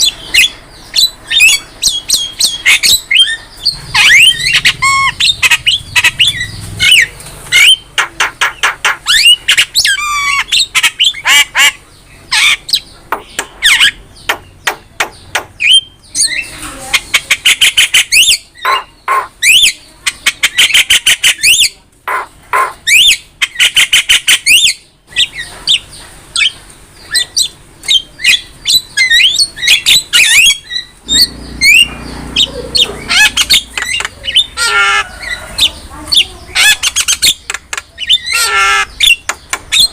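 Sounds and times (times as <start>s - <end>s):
myna bird singing: 0.0s - 39.9s.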